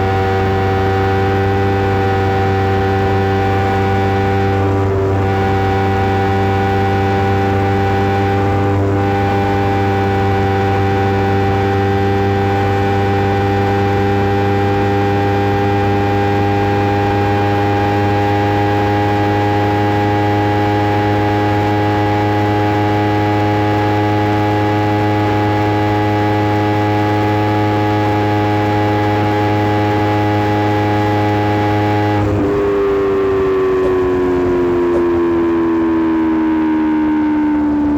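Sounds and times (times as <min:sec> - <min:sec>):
motorcycle engine at high revs: 0:00.0 - 0:37.9.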